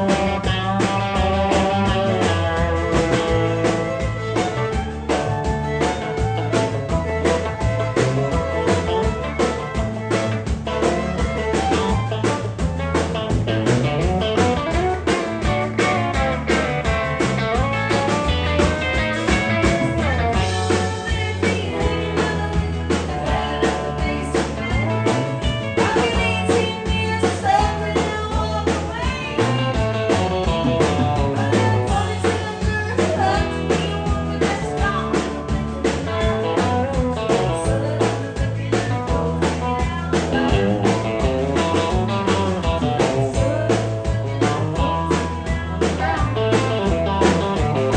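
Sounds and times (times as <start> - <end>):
acoustic guitar: 0.0 - 47.9
drum kit: 0.0 - 47.9
electric guitar: 0.0 - 47.9
fiddle: 0.0 - 47.9.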